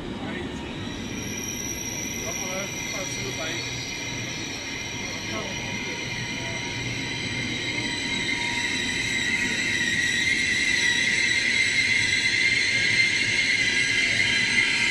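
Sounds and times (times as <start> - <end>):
train rumbling with high whine: 0.0 - 14.9.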